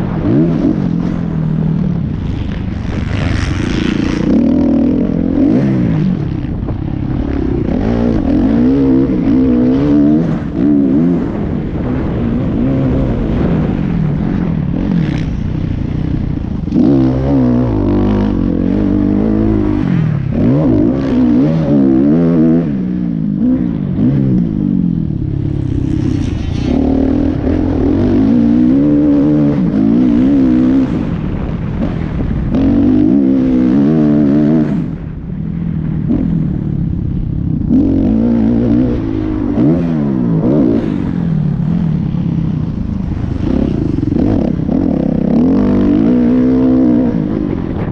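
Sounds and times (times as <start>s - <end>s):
dirt bike engine revving: 0.0s - 35.2s, 37.6s - 47.9s.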